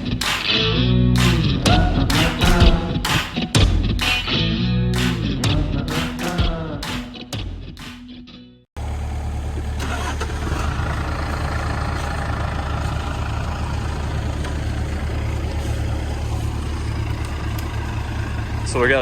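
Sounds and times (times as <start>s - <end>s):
diesel engine running: 0.0s - 7.2s, 8.8s - 19.0s.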